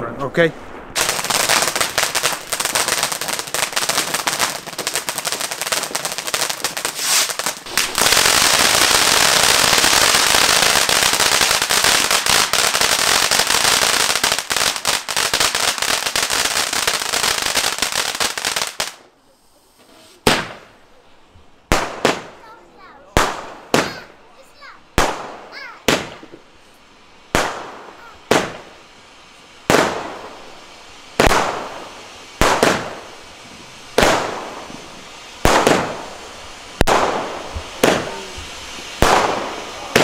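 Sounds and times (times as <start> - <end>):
firework fountain crackling: 0.0 - 40.0.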